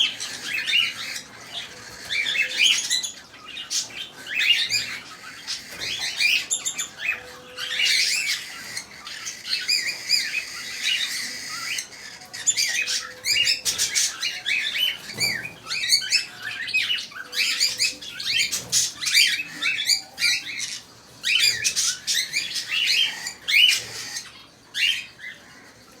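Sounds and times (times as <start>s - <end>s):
parrots chirping and squawking: 0.0s - 26.0s.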